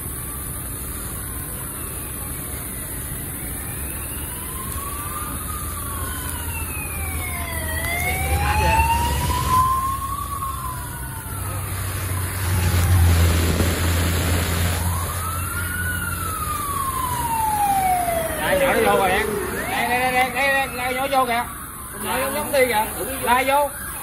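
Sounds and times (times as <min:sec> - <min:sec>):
police sirens wailing: 0:00.0 - 0:24.0
low engine rumble: 0:01.0 - 0:23.0.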